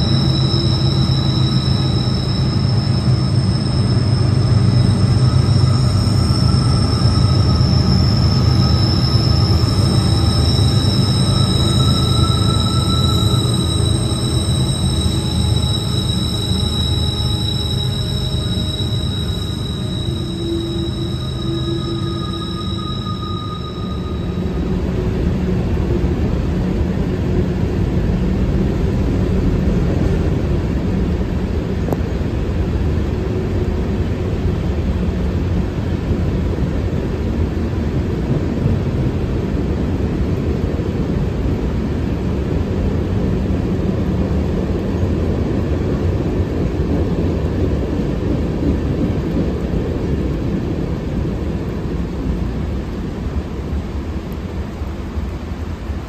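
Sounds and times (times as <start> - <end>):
engine drone: 0.0 - 56.0
freight train rumbling past: 0.0 - 56.0.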